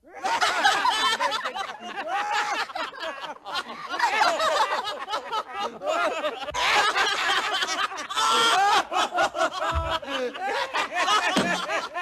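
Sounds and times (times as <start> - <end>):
cartoon voices laughing: 0.1 - 12.0.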